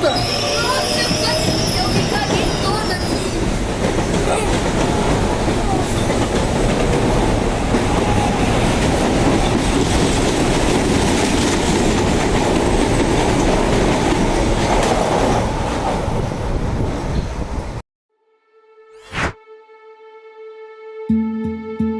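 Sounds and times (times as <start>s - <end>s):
electric train rumbling past: 0.0s - 17.8s.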